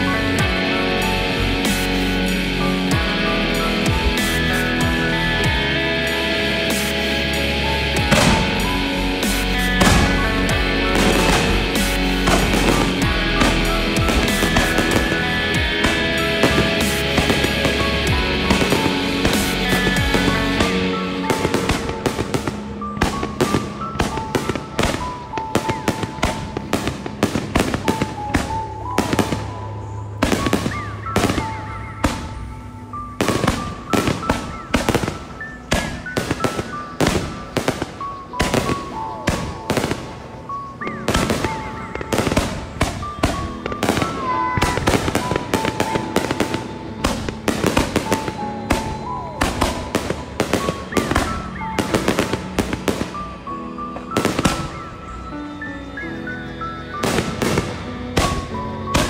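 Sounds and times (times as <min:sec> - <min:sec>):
fireworks bangs: 0:00.0 - 0:55.7, 0:56.9 - 0:59.0
background music: 0:00.0 - 0:59.0.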